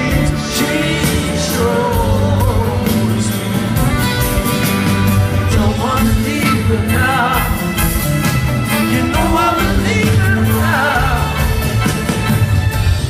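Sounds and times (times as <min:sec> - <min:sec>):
man singing: 0:00.0 - 0:04.4, 0:05.3 - 0:12.1
rock band playing: 0:00.0 - 0:13.0.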